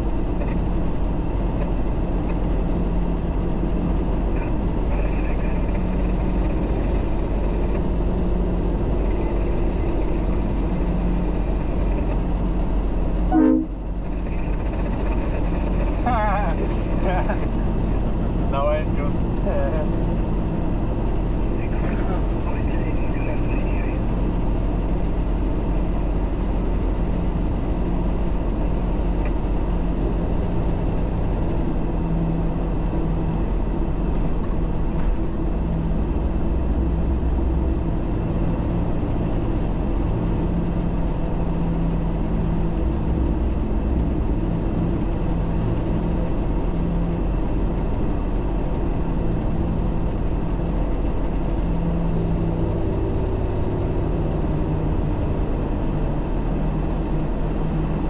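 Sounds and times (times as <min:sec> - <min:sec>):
road and tyre noise: 0:00.0 - 0:58.0
truck diesel engine running: 0:00.0 - 0:58.0.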